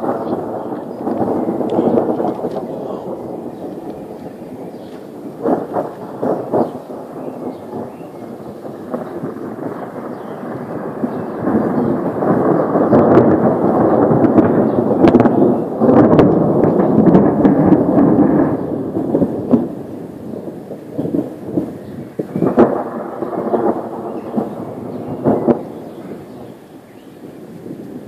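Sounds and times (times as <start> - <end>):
rolling thunder: 0.0 - 28.0
thunder crackles: 0.0 - 28.0.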